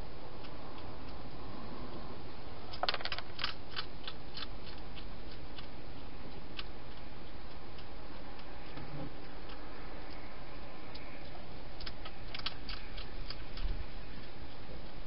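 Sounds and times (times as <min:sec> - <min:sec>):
hedgehog crunching food: 0:00.2 - 0:15.0
sharp clicks: 0:02.7 - 0:15.0.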